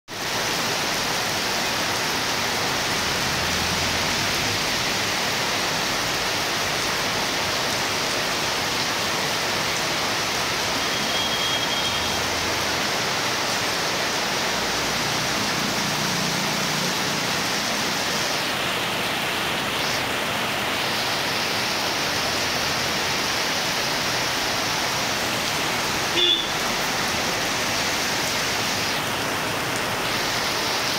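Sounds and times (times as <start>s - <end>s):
heavy rain on street: 0.1s - 30.9s
vehicle passing on wet road: 0.2s - 30.9s.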